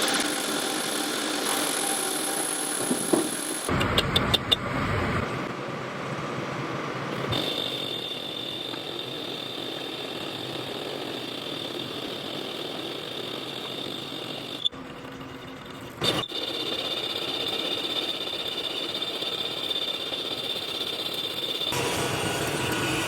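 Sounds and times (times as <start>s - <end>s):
machine motor high whine: 0.0s - 5.4s, 7.2s - 23.0s.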